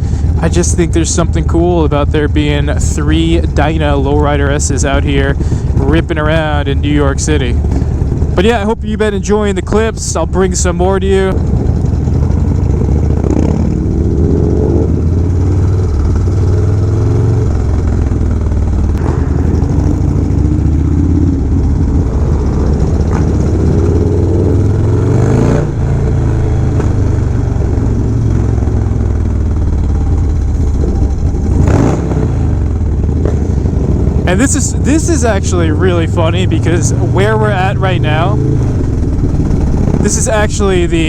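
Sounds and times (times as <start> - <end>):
motorcycle accelerating: 0.0 - 41.0.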